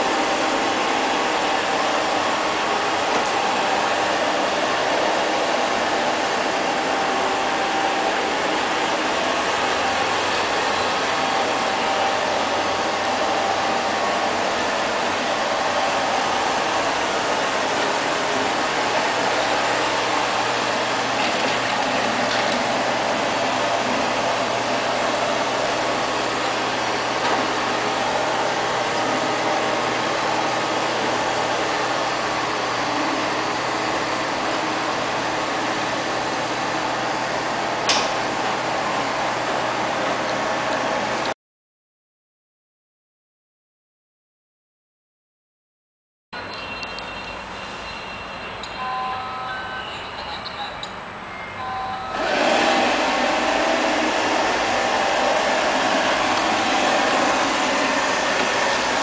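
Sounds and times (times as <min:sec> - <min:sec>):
robot vacuum cleaner whirring: 0:00.0 - 0:41.2, 0:52.1 - 0:59.0.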